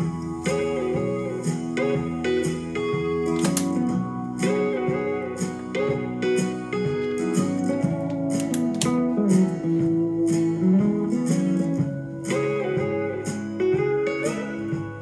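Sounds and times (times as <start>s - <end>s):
plucked and strummed guitar: 0.0s - 15.0s.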